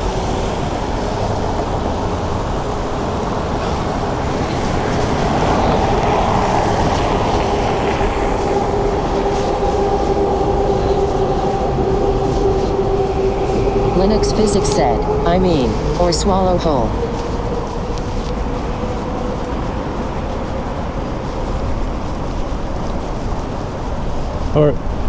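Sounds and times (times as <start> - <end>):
rapid-transit train running past: 0.0 - 25.0
wind noise on microphone: 0.0 - 25.0.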